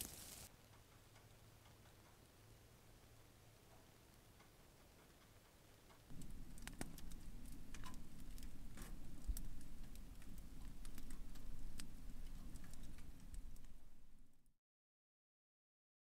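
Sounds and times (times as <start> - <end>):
fire crackles and snaps: 0.0 - 14.5
wood stove fire rumbling: 0.0 - 14.5.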